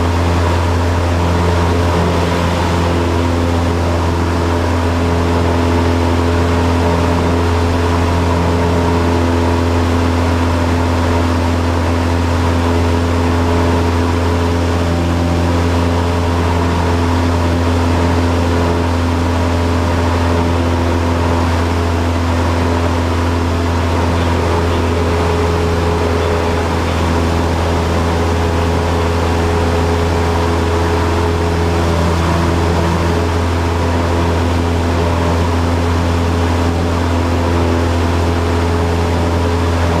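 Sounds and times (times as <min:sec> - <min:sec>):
propeller plane engine drone: 0:00.0 - 0:40.0.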